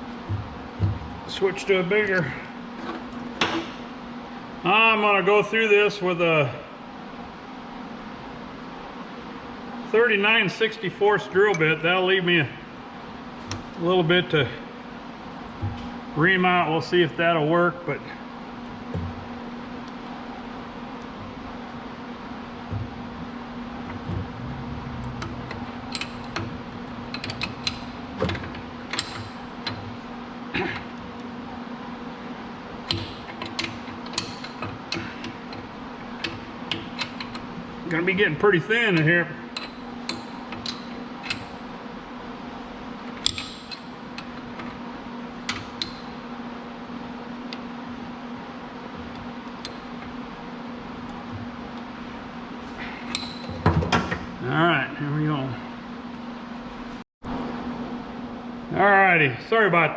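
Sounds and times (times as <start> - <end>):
steady low machine hum: 0.0 - 59.9.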